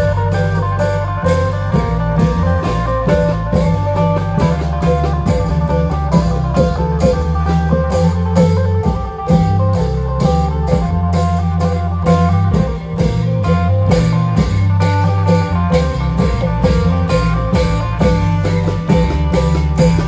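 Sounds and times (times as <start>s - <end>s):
driving drum beat: 0.0s - 20.0s
heavy bass line: 0.0s - 20.0s
plucked string lead: 0.0s - 20.0s.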